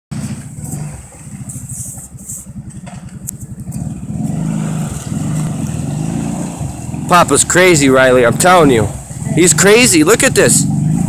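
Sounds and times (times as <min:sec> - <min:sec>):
quad engine running: 0:00.1 - 0:11.0.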